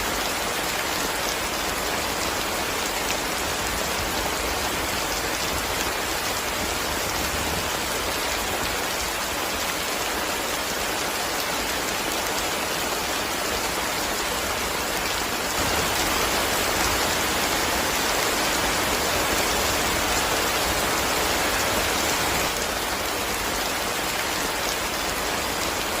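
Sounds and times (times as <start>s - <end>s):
heavy rain on a tin roof: 0.0s - 26.0s.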